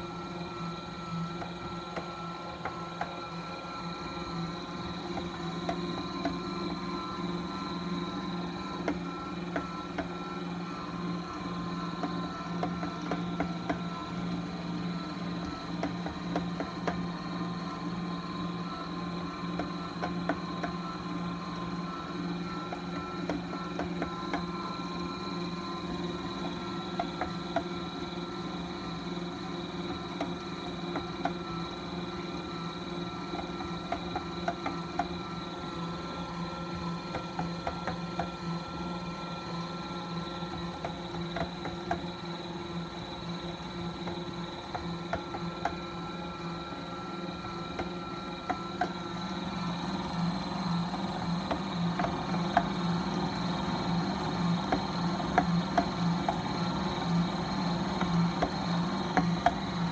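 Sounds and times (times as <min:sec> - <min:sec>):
dough mixer motor hum: 0:00.0 - 0:59.9.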